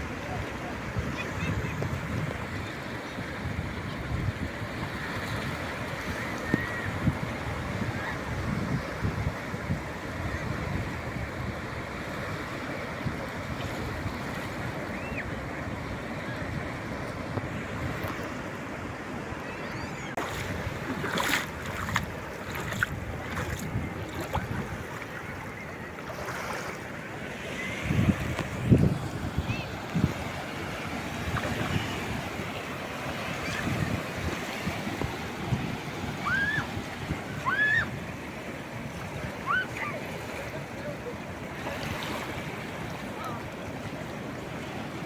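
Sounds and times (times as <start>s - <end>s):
wind on microphone: 0.0s - 18.4s, 19.8s - 26.9s, 27.6s - 38.2s
sea waves washing ashore: 0.0s - 45.0s.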